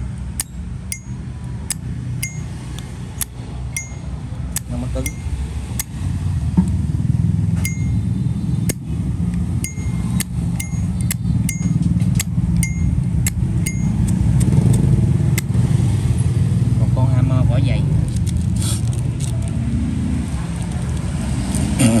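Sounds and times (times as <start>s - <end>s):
low rumble like traffic: 0.0s - 22.0s.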